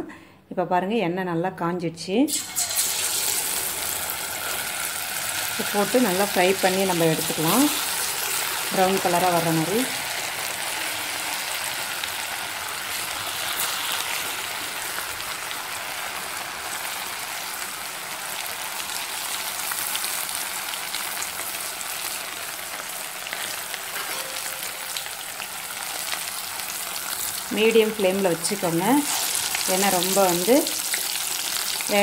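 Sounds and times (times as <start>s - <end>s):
food sizzling in hot oil: 2.3s - 32.0s.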